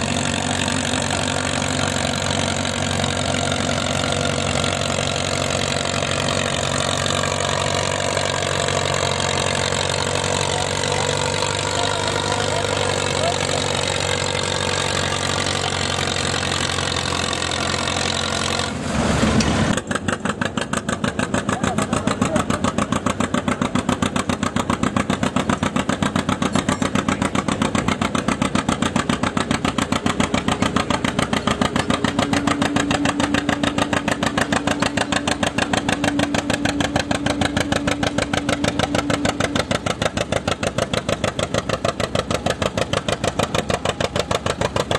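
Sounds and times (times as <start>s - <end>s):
two-cylinder tractor engine popping: 0.0s - 18.7s, 19.4s - 44.9s
tractor engine running: 0.0s - 44.9s.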